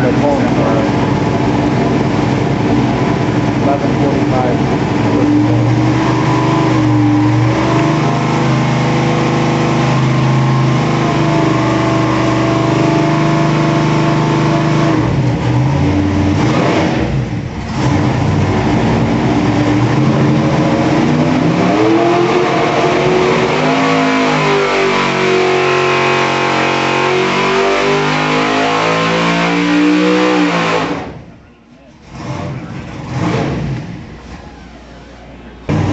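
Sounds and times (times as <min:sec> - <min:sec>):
loud engine on dyno: 0:00.0 - 0:35.9.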